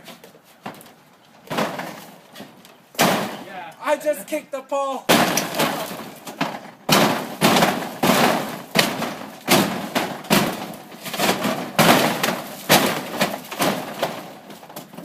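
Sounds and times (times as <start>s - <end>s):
fiberglass roofing being smashed: 0.0s - 3.7s, 5.1s - 15.0s.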